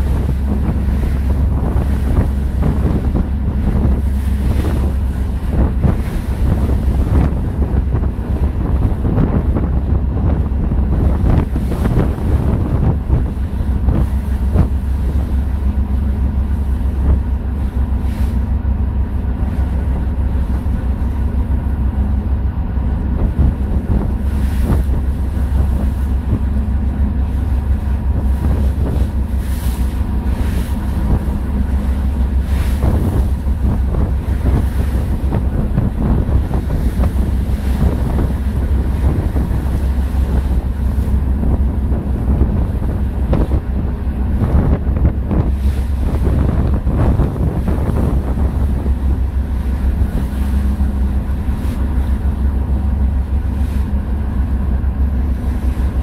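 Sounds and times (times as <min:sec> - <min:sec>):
boat engine droning: 0:00.0 - 0:56.0
water washing around hull: 0:00.0 - 0:56.0
wind buffeting microphone: 0:00.0 - 0:56.0.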